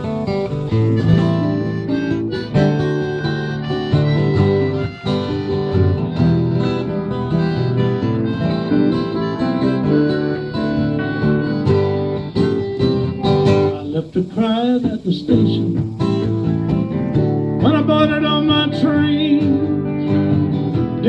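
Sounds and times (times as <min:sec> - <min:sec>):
acoustic guitar strumming: 0:00.0 - 0:21.0
harmonica: 0:00.0 - 0:21.0.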